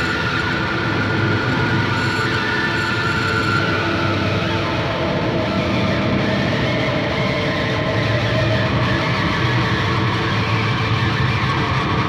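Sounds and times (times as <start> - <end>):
distorted electric guitar drone: 0.0 - 12.0.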